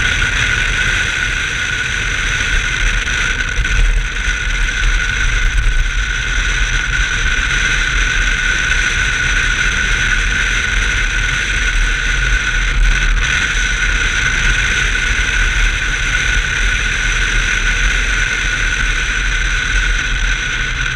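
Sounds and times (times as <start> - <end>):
car engine running: 0.0 - 20.9.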